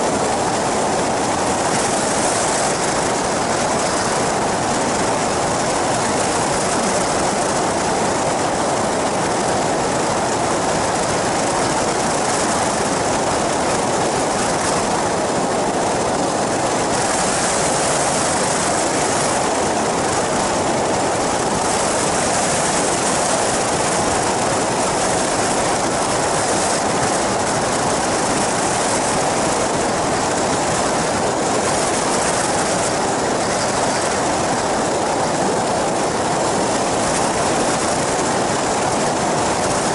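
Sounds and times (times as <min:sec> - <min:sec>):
propeller engine drone: 0:00.0 - 0:39.9
rushing wind: 0:00.0 - 0:39.9.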